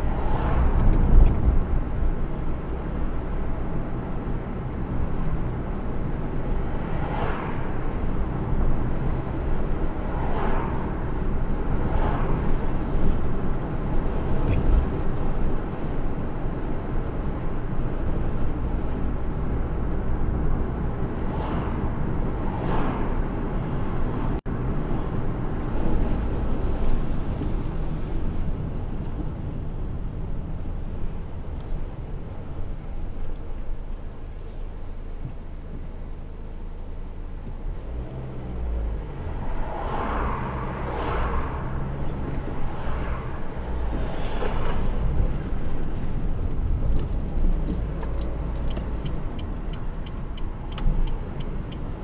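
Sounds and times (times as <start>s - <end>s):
engine and tyre rumble: 0.0s - 52.0s
vehicles passing by whooshing: 0.0s - 52.0s.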